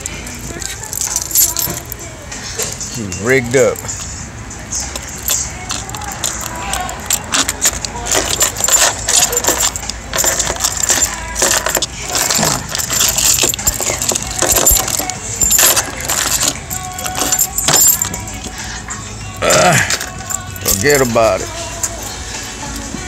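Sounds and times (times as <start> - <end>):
small metal clinks and clicks: 0.0 - 2.8, 4.9 - 18.6, 19.3 - 22.9
car keys jangling: 0.0 - 23.0.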